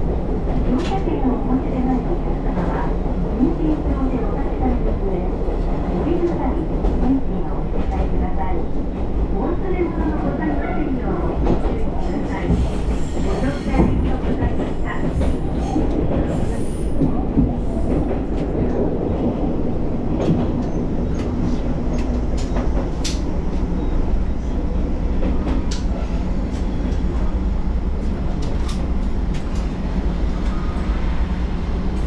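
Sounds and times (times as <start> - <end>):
diesel railcar rumbling: 0.0 - 32.0.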